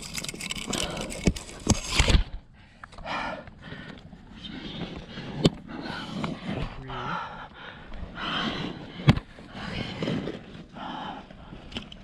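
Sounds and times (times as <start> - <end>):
heavy breathing: 0.6 - 1.6, 2.5 - 11.8.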